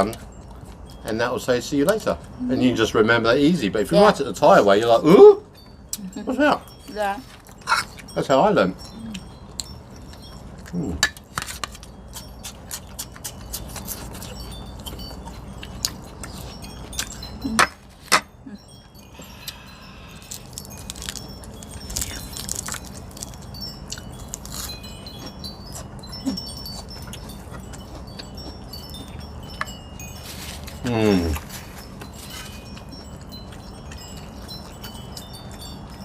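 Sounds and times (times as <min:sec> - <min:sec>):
high tinkling notes: 0:00.0 - 0:36.0.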